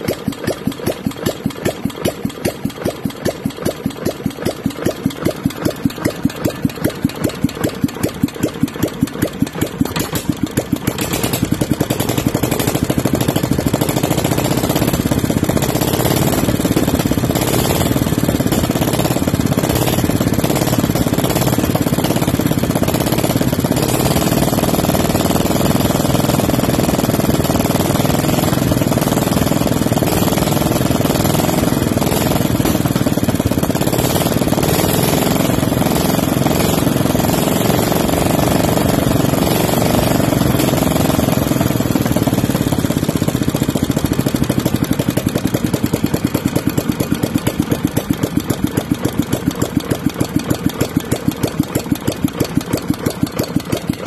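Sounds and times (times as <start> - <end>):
stationary engine running: 0.0 - 54.0.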